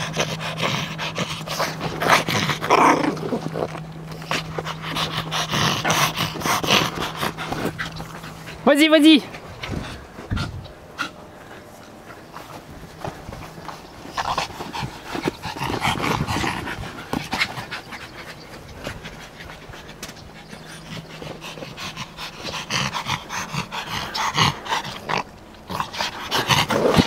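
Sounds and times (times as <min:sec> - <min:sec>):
dogs panting: 0:00.0 - 0:27.0.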